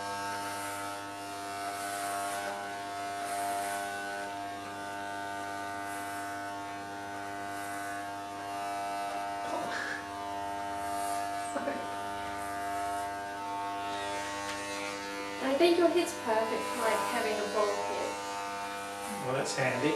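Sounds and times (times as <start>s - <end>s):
electric hair clippers buzzing: 0.0s - 19.9s.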